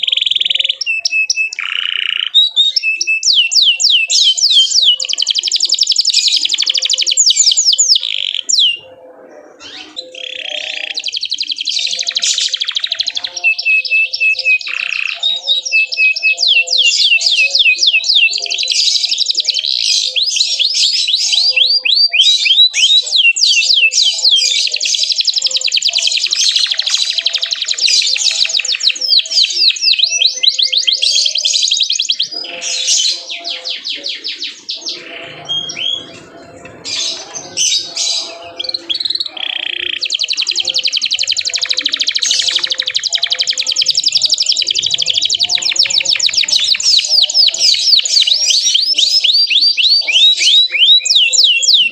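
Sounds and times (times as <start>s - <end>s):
canary singing: 0.0s - 51.9s.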